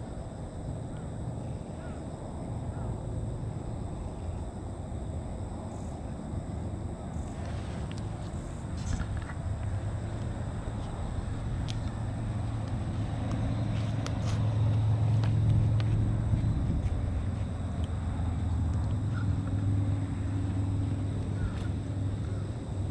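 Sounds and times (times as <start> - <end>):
low engine hum: 0.0 - 22.9.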